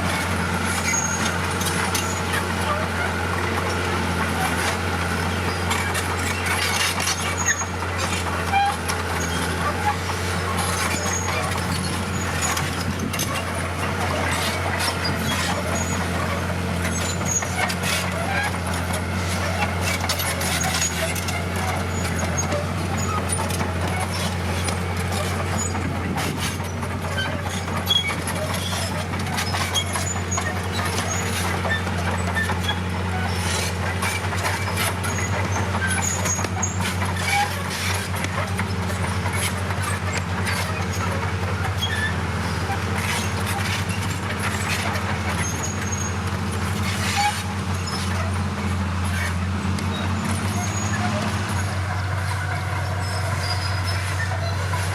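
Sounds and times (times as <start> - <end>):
diesel engine drone: 0.0 - 54.9.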